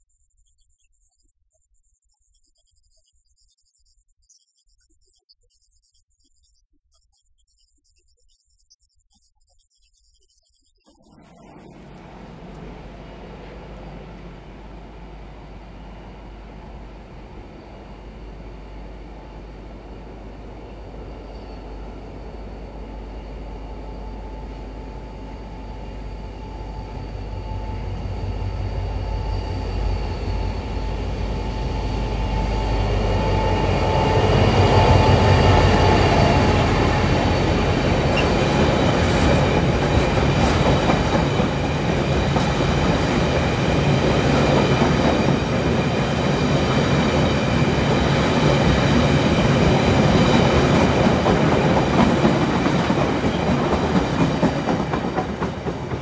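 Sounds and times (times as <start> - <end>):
high steady squealing tones: 0.0 - 12.0, 21.0 - 55.7
diesel locomotive engine hum: 10.9 - 56.0.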